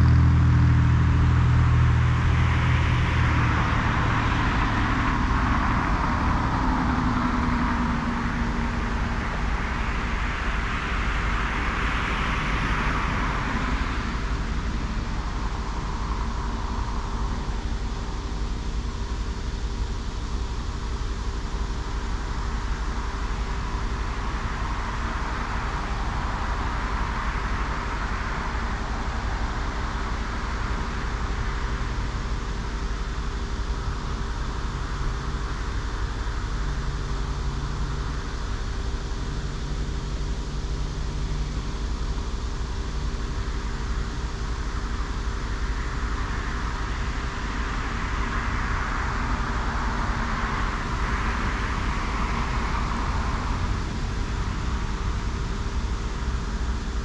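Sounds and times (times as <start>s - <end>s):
steady low hum: 0.0s - 57.0s
vehicles passing with tyre noise: 0.0s - 57.0s.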